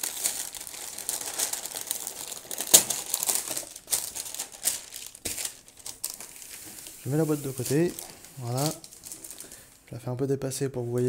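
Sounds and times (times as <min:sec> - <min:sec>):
paper rustling and crinkling: 0:00.0 - 0:09.7.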